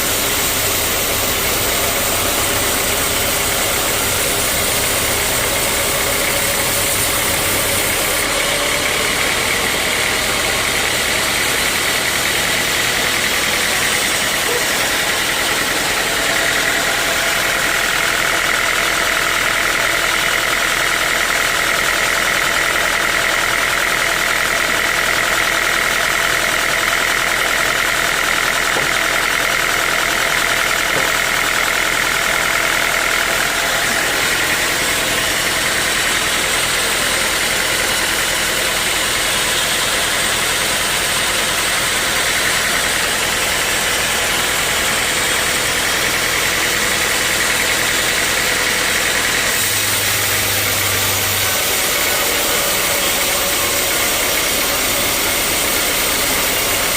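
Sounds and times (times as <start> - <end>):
sawmill saw cutting log: 0.0 - 56.9.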